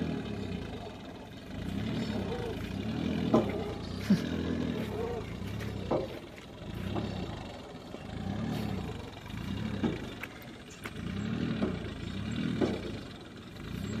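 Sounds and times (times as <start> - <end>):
tractor diesel engine running: 0.0 - 14.0
light clatters: 1.6 - 14.0.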